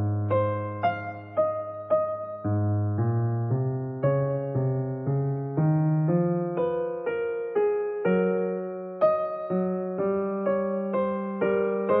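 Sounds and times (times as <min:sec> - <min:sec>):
slow electric piano music: 0:00.0 - 0:12.0.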